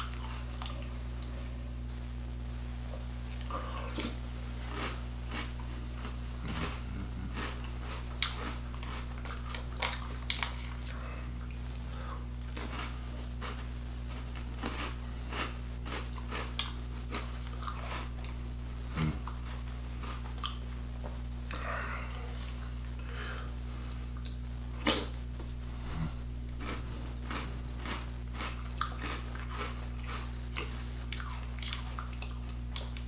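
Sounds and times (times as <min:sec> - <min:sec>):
crunching and chewing cereal: 0:00.0 - 0:01.7, 0:02.9 - 0:33.0
low electrical hum: 0:00.0 - 0:33.0.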